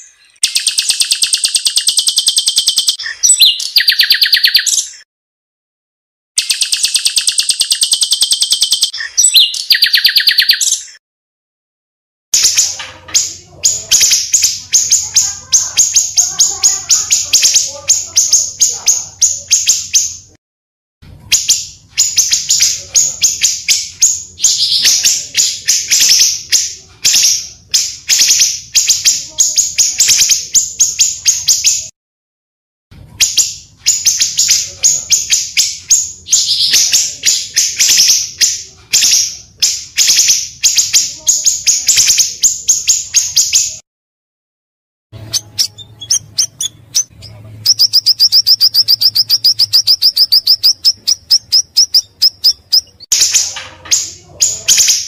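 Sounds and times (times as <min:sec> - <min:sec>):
rapid high scratchy bird chirps: 0:00.0 - 0:05.1, 0:06.4 - 0:11.0, 0:12.4 - 0:20.4, 0:21.3 - 0:31.9, 0:33.2 - 0:43.8, 0:45.2 - 0:55.0.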